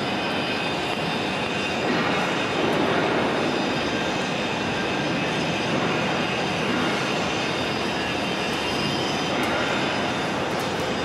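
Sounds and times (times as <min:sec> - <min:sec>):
welding carriage machine noise: 0:00.0 - 0:11.0.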